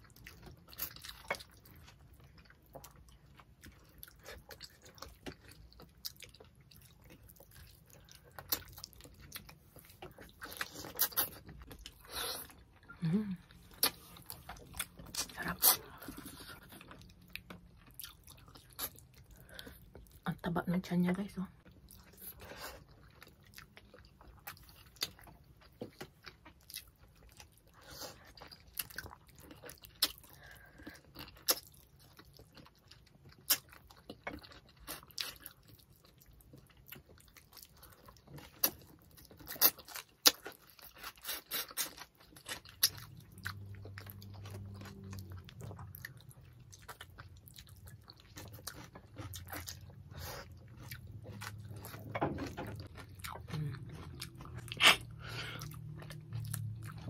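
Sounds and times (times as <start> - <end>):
chewing: 0.0 - 20.2, 21.6 - 57.0.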